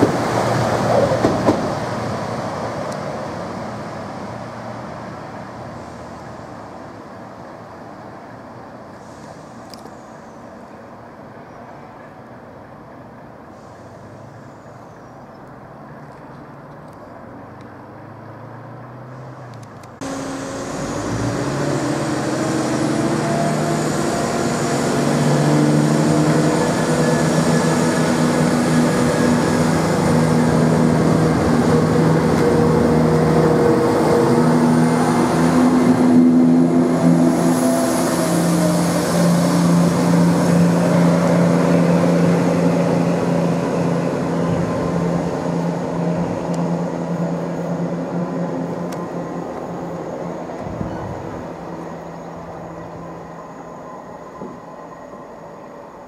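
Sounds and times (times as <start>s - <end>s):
diesel train passing close: 0.0s - 56.0s.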